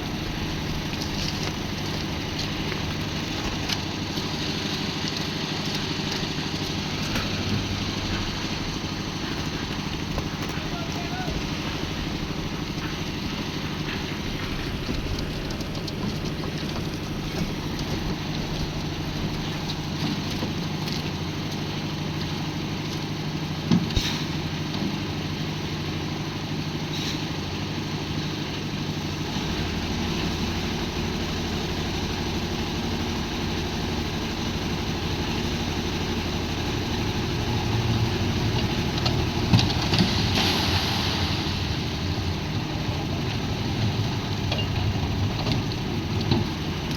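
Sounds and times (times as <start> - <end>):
concrete mixer engine running: 0.0 - 46.9.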